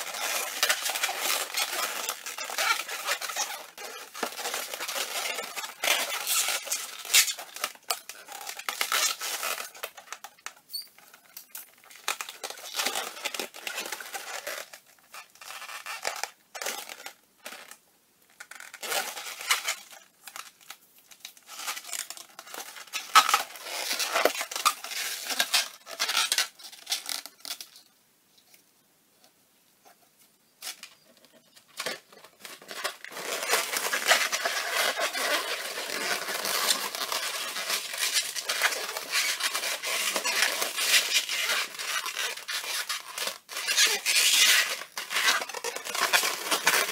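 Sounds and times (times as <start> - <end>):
balloons squeaking and rubbing: 0.0 - 17.8, 18.4 - 20.6, 21.2 - 27.9, 30.6 - 46.9.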